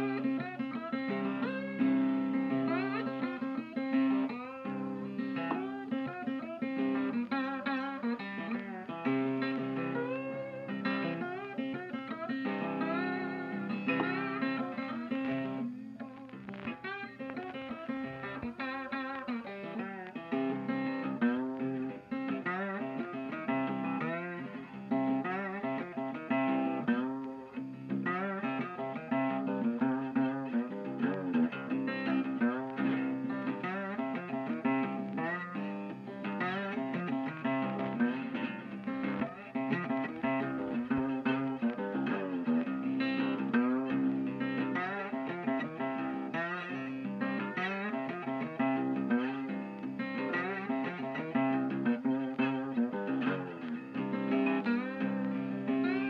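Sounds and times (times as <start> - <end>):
guitar background music: 0.0 - 56.0.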